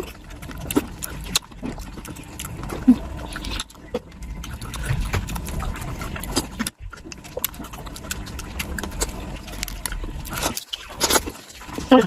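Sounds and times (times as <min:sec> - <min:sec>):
chewing and lip-smacking: 0:00.0 - 0:12.0
crunching food: 0:00.0 - 0:12.0.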